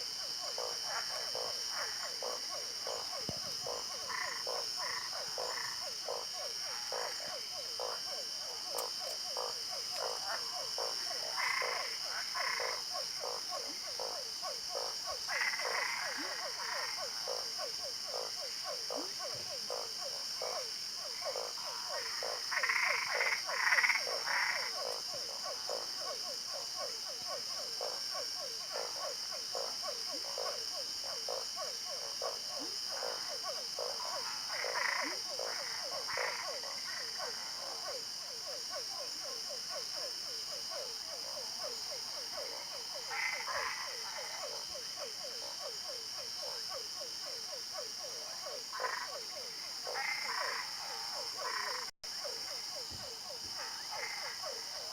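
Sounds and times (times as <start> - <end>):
frogs croaking: 0.0 - 54.9
high-pitched frog calls: 0.0 - 54.9.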